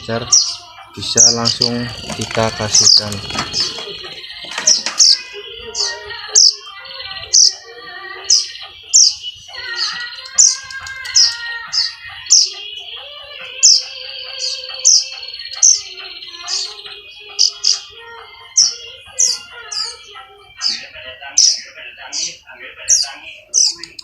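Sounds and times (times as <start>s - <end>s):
baby birds begging chirps: 0.0s - 24.0s.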